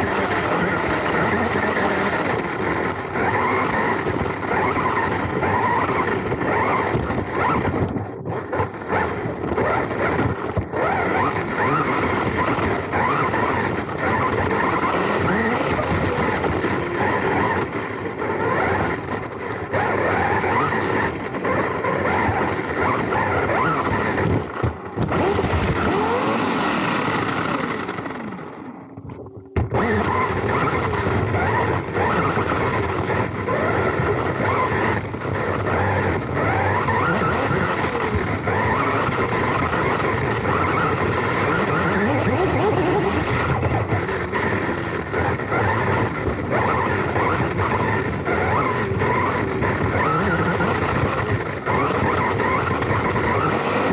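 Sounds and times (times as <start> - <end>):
electric motor whine: 0.0 - 53.9.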